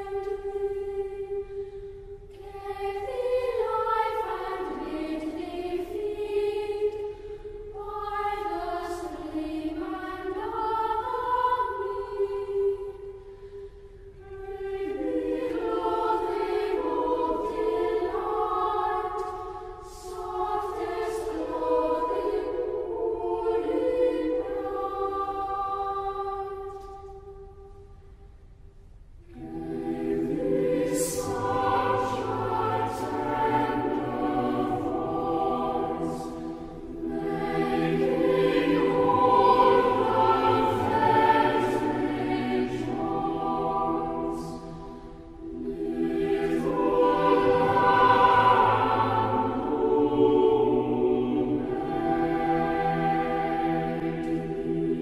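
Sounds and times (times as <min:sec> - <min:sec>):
choir singing: 0:00.0 - 0:28.0, 0:29.2 - 0:55.0.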